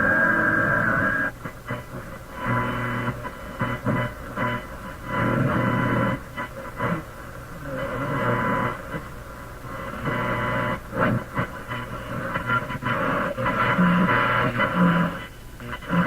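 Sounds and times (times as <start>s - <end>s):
crackling radio broadcast: 0.0s - 16.0s.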